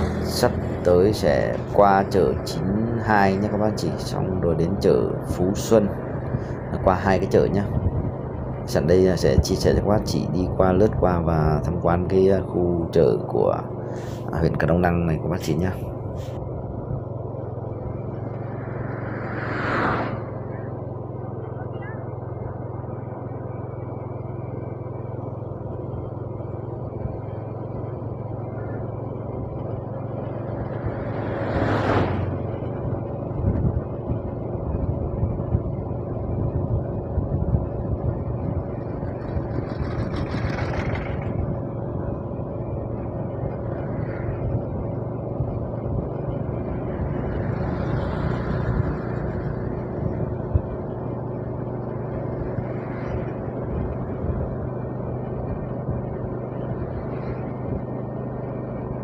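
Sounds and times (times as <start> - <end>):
vehicle road rumble: 0.0 - 59.0
vehicles passing: 0.0 - 59.0.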